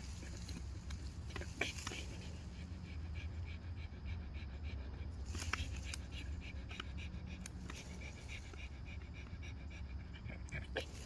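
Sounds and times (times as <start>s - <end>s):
dog panting: 0.0s - 11.0s
steady low hum: 0.0s - 11.0s.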